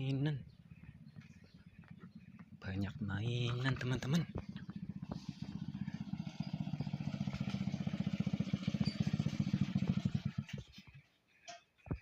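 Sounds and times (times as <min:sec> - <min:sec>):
small engine running: 0:00.0 - 0:11.1.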